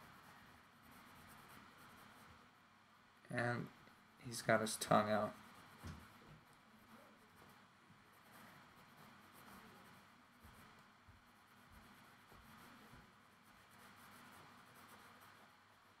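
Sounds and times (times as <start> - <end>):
pencil scratching on paper: 0.0 - 2.4, 4.5 - 16.0.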